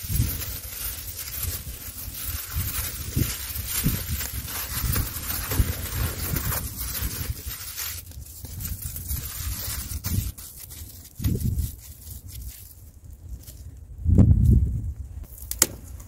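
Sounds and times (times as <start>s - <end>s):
aluminium foil crinkling: 0.0s - 13.8s
wind on microphone: 0.0s - 16.0s.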